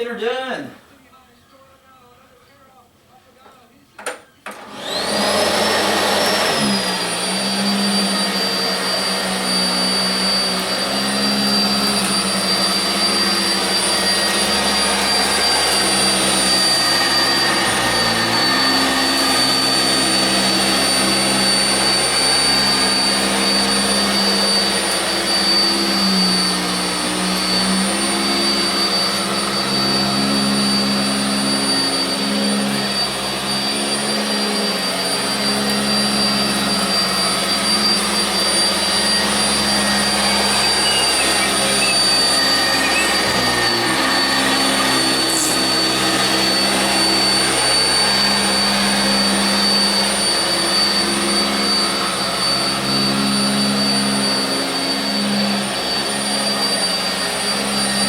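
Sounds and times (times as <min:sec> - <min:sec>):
upright vacuum cleaner running: 0:04.4 - 0:58.0.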